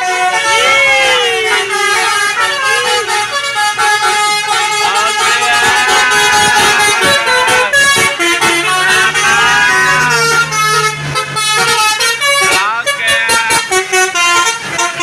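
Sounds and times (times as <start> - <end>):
bus musical horns: 0.0 - 15.0.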